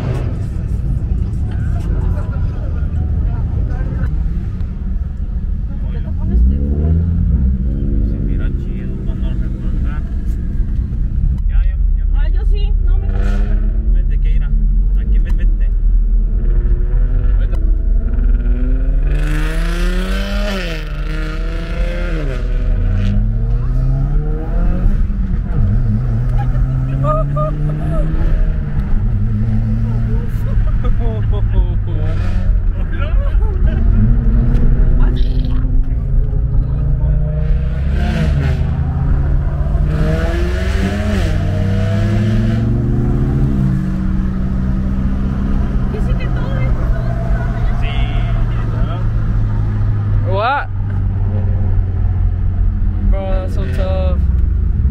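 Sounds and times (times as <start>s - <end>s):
car engine accelerating through gears: 3.7s - 11.4s, 16.2s - 54.9s.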